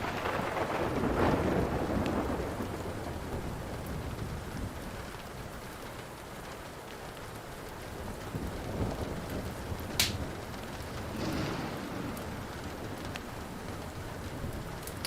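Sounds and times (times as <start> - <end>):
thunder rumble: 0.0 - 6.7, 7.3 - 15.0
steady rain: 0.0 - 15.0
wood fire crackling: 0.0 - 15.0.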